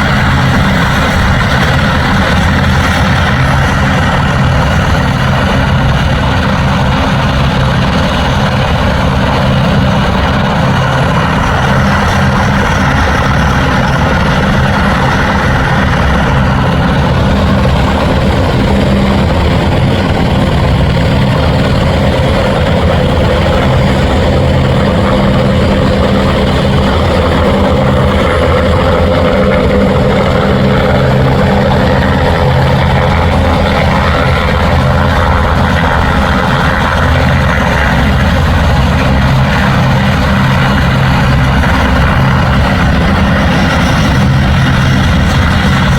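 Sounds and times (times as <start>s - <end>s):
helicopter rotor and engine drone: 0.0s - 45.9s.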